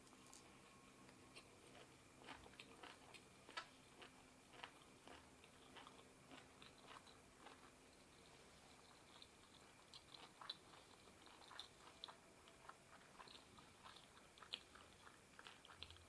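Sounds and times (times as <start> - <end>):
person chewing and crunching food: 0.0 - 16.0.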